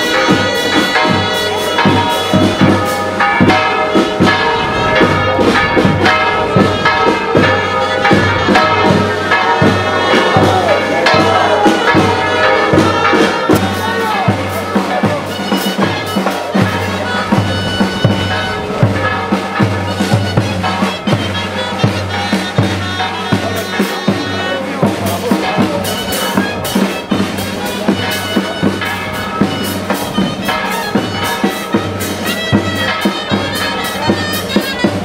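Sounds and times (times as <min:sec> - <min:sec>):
reedy wind instrument melody: 0:00.0 - 0:35.0
steady drum beat: 0:00.0 - 0:35.0.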